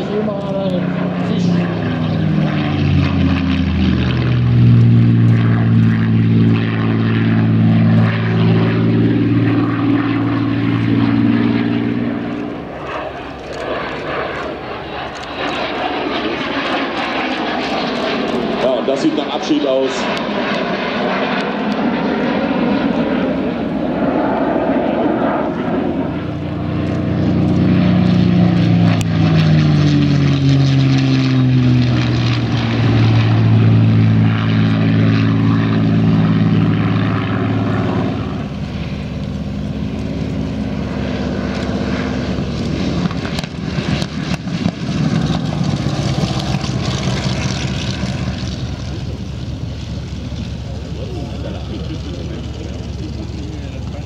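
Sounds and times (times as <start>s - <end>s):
piston aircraft engine flyby: 0.0s - 54.0s
rough engine noise: 0.0s - 54.0s.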